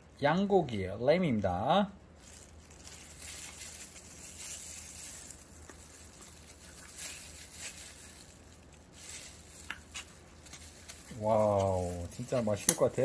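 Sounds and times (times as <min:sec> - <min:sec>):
plastic glove crinkling: 0:02.0 - 0:13.0.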